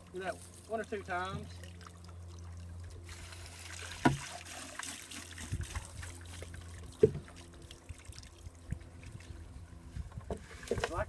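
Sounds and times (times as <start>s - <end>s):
water trickling through sieve: 0.0s - 11.0s.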